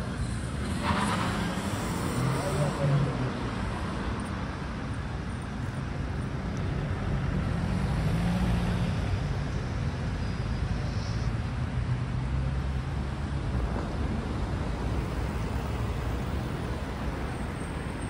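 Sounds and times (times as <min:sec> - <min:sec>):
cars driving on street: 0:00.0 - 0:18.0.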